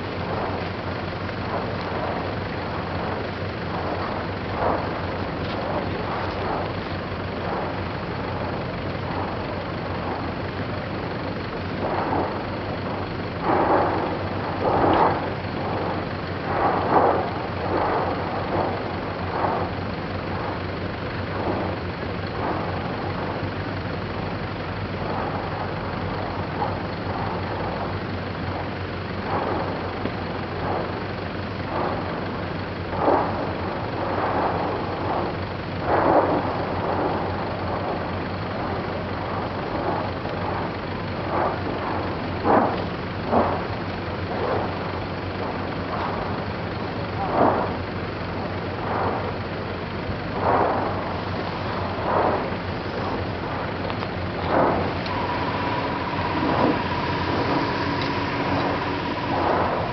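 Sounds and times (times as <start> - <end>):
lava fountain rushing: 0.0 - 59.9
steady low hum: 0.0 - 59.9
whooshing bursts: 0.0 - 59.9.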